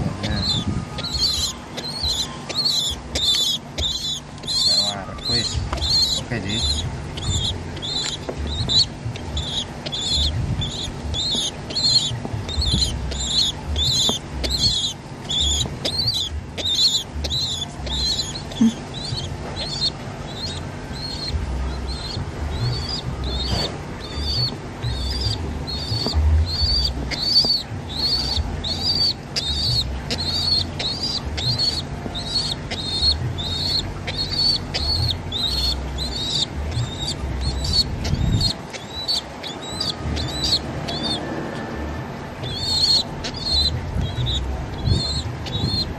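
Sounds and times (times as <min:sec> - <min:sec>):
pigeon squabs squeaking: 0:00.0 - 0:45.9.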